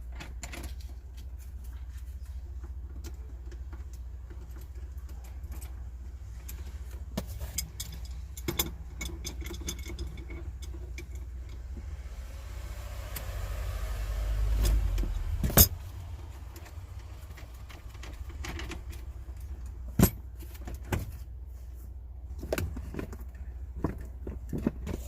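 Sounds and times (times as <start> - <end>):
steady low rumble: 0.0 - 24.8.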